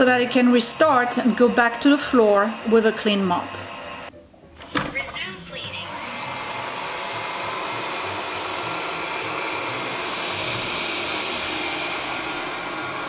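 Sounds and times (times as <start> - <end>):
robot vacuum fan whirring: 0.0 - 4.1, 5.0 - 13.0.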